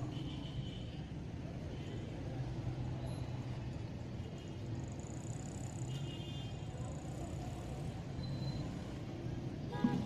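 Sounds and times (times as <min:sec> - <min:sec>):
steady traffic: 0:00.0 - 0:10.0.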